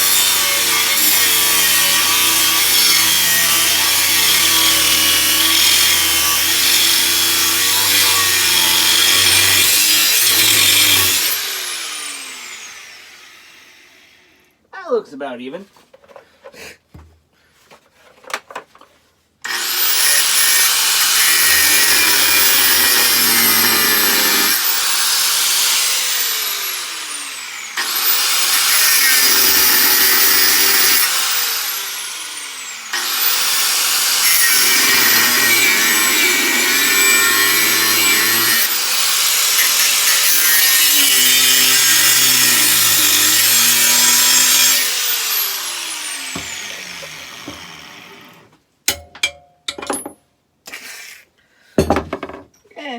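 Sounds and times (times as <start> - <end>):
power tool cutting steel: 0.0 - 14.4, 19.5 - 48.5.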